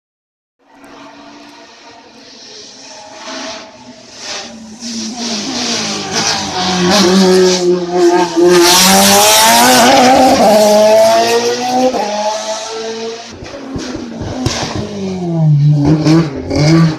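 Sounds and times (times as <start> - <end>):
race car engine revving: 1.0 - 16.9.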